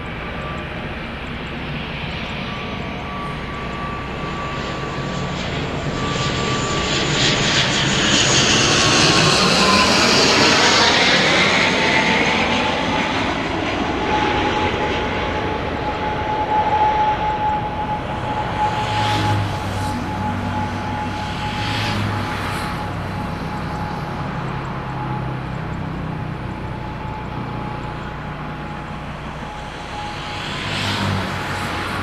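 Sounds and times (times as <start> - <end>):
airliner engines passing: 0.0 - 32.0.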